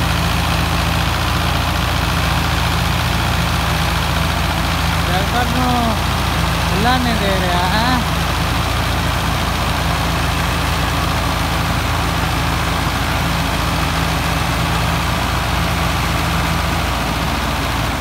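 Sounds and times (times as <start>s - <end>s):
tractor engines under load: 0.0s - 18.0s.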